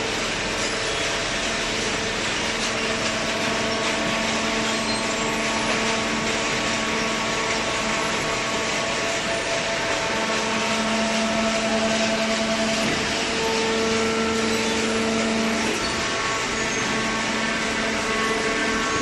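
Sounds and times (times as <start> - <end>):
baler motor and pump humming: 0.0 - 19.0.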